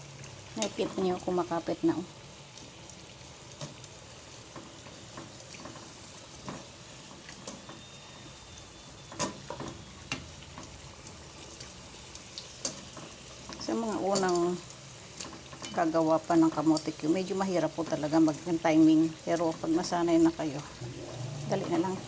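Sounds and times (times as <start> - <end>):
food frying in hot oil: 0.0 - 22.0.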